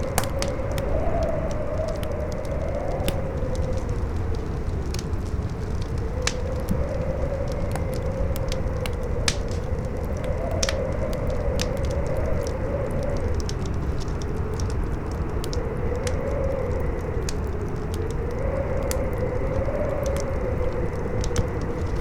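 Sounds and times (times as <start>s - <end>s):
campfire crackling and popping: 0.0s - 22.0s
howling wind: 0.0s - 22.0s
low wind rumble: 0.0s - 22.0s.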